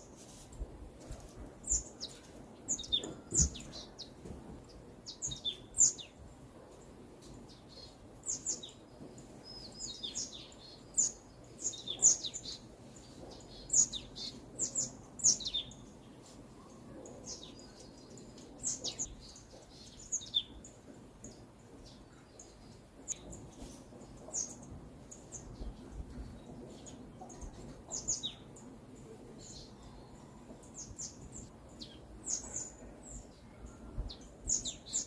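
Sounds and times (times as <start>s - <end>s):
faint background hiss: 0.0s - 35.0s
songbirds chirping: 0.0s - 35.0s.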